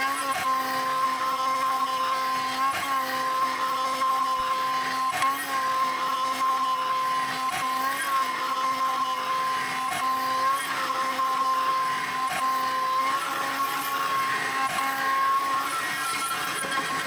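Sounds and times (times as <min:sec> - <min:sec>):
milling spindle whine: 0:00.0 - 0:17.0.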